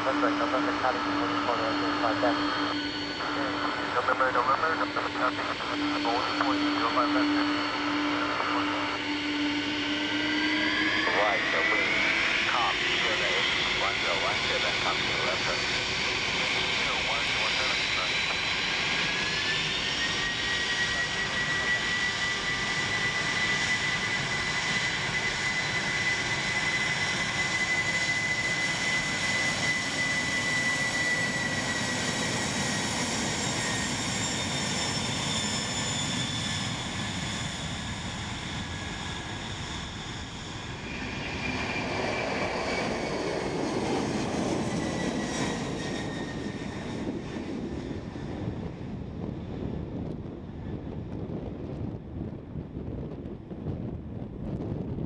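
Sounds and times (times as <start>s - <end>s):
jet engine fan whine: 0.0s - 55.0s
jet engine rumble: 0.0s - 55.0s.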